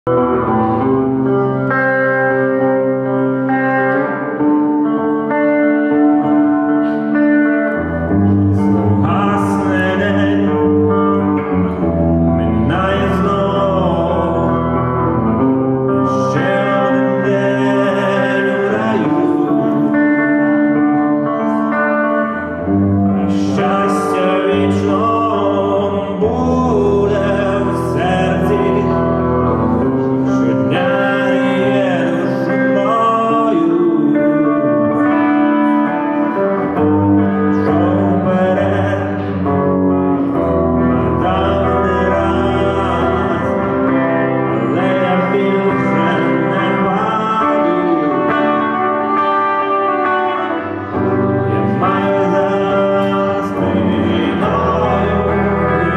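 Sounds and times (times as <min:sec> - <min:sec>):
live instrumental pop music: 0:00.0 - 0:55.9.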